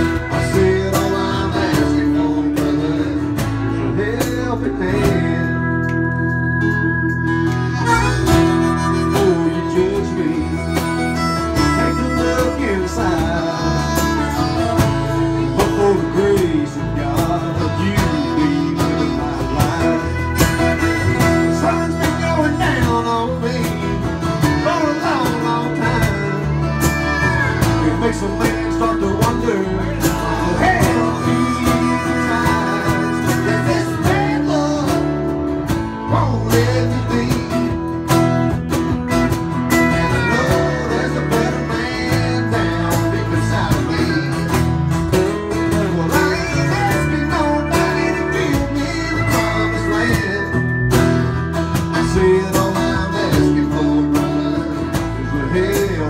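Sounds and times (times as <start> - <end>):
harmonica lead line: 0.0 - 56.0
pedal steel guitar: 0.0 - 56.0
strummed acoustic guitar: 0.0 - 56.0.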